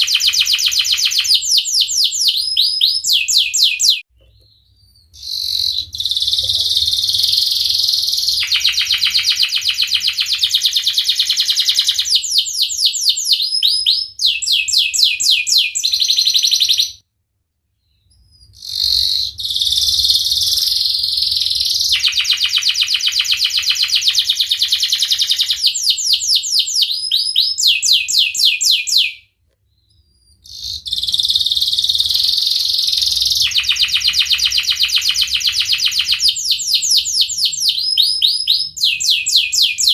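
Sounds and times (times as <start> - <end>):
canary singing with trills: 0.0 - 17.0, 17.8 - 39.9.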